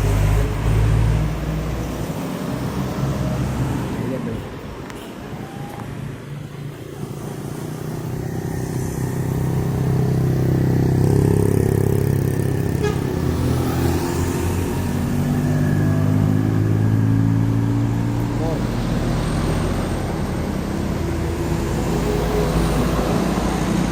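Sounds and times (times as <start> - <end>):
heavy vehicles passing: 0.0 - 23.9.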